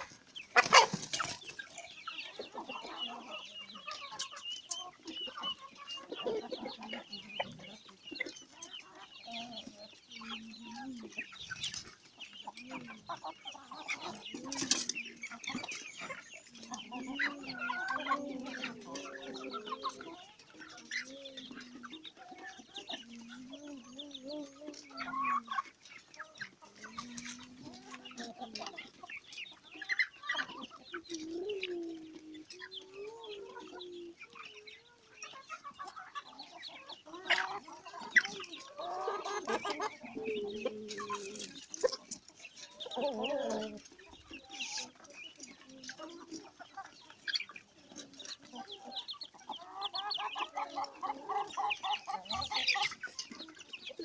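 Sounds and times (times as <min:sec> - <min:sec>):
chickens clucking and calling: 0:00.0 - 0:54.0
hens squawking: 0:00.0 - 0:54.0.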